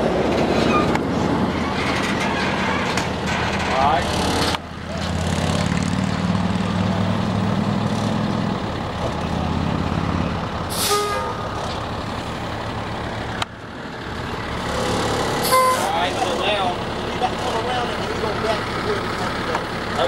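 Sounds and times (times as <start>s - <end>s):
dump truck engine running: 0.0s - 20.0s.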